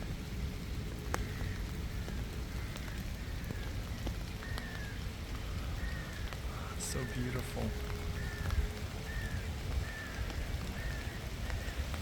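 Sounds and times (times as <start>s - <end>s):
rain-like crackling hiss: 0.0s - 12.0s.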